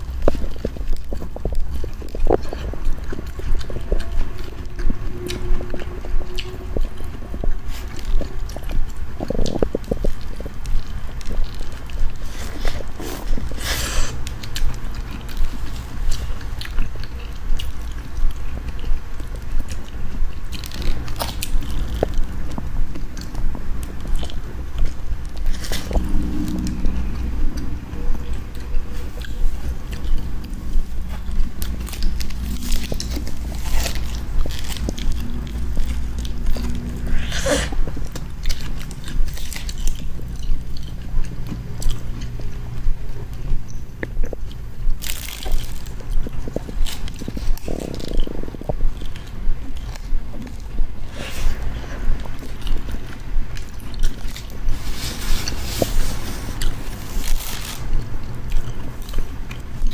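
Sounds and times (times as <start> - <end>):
person chewing corn on the cob: 0.0 - 59.9.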